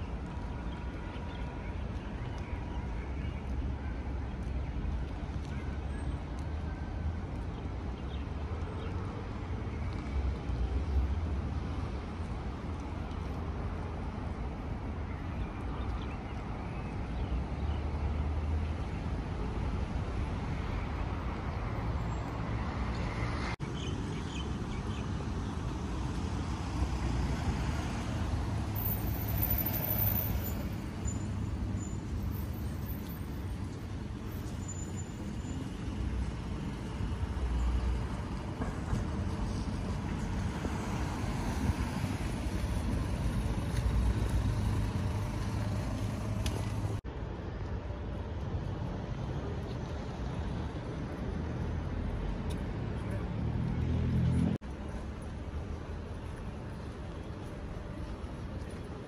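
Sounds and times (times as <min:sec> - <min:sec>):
low hum of road traffic: 0:00.0 - 0:59.0
cars passing: 0:03.0 - 0:59.0.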